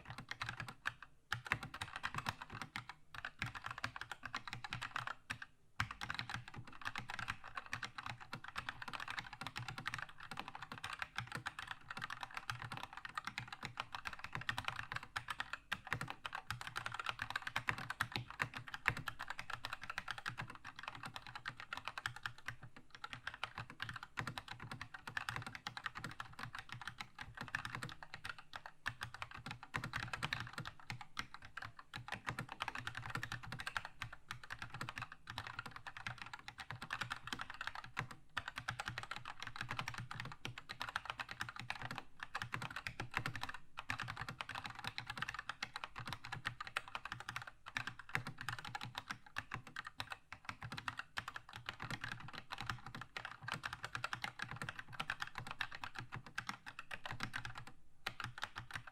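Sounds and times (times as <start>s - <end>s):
mechanical keyboard typing: 0.0s - 58.9s.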